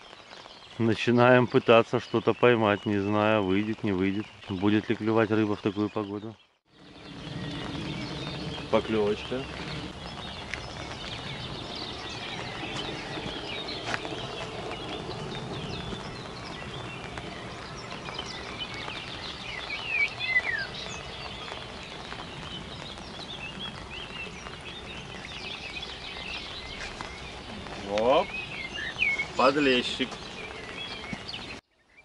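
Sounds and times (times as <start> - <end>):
light rain patter: 0.0 - 31.6
birds chirping and singing: 0.0 - 32.0.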